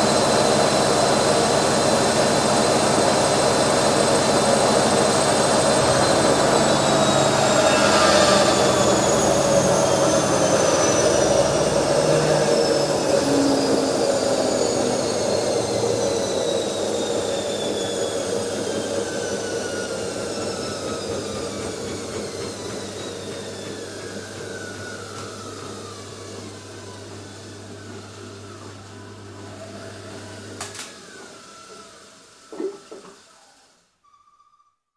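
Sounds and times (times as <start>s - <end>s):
motor whine: 0.0s - 32.8s
washing machine spinning down: 0.0s - 33.8s.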